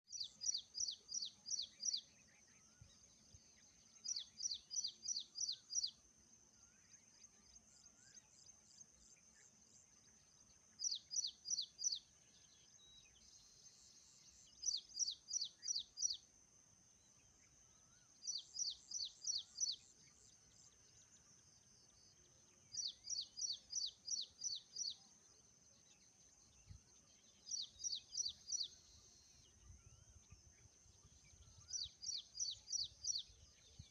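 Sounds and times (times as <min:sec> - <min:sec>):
songbird chirping: 0:00.0 - 0:33.9
faint high-pitched buzz: 0:00.1 - 0:33.9.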